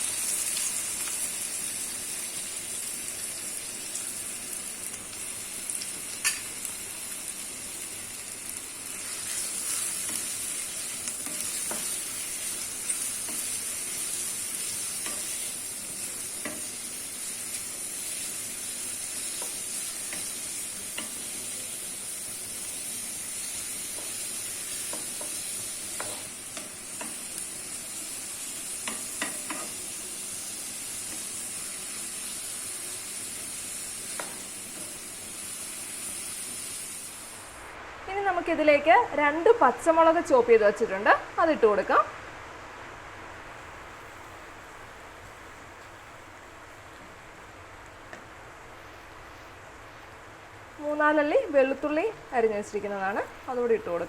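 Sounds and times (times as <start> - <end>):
onions sizzling in hot oil: 0.0 - 42.2, 42.8 - 54.0.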